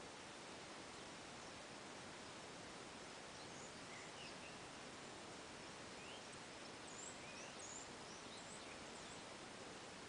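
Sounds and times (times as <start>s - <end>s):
small birds chirping: 0.0s - 10.0s
steady hiss: 0.0s - 10.0s.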